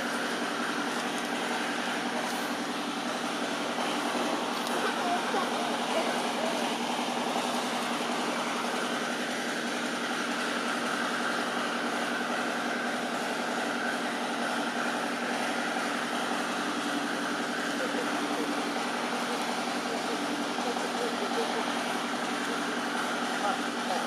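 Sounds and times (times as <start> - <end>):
steady droning hum: 0.0 - 24.0.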